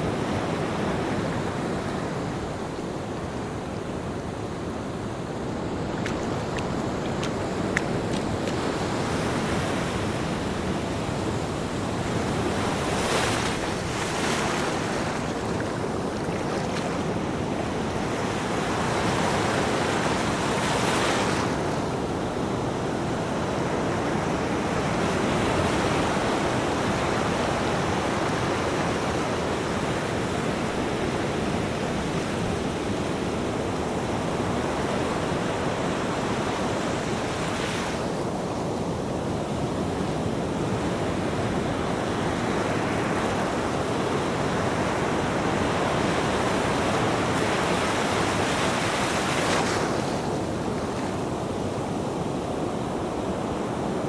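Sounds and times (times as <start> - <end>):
ocean waves breaking on a beach: 0.0 - 54.0.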